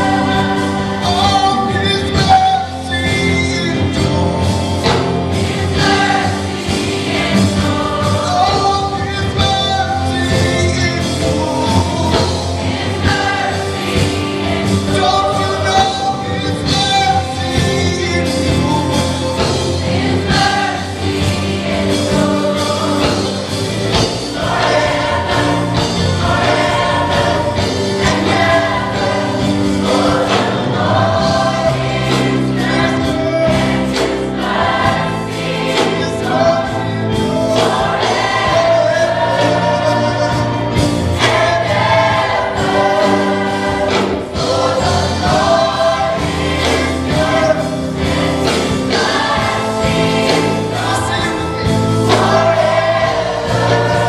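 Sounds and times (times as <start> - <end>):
drums: 0.0 - 54.0
gospel choir singing: 0.0 - 54.0
guitars: 0.0 - 54.0.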